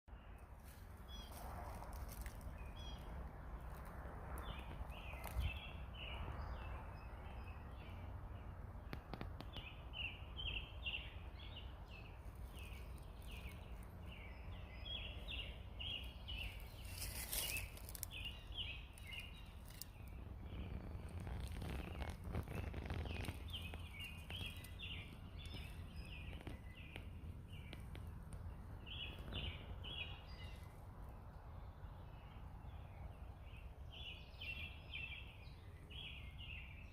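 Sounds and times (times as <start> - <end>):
birds chirping: 0.1 - 36.9
steady low rumble: 0.1 - 36.9.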